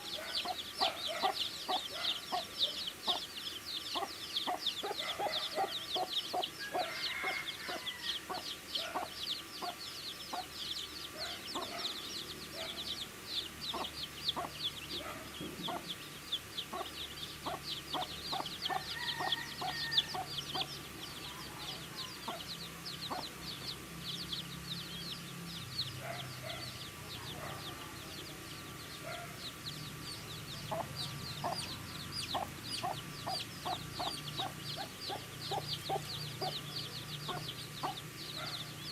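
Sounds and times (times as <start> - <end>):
baby chicks peeping: 0.0 - 38.9
chicks pecking at feed: 3.9 - 38.8.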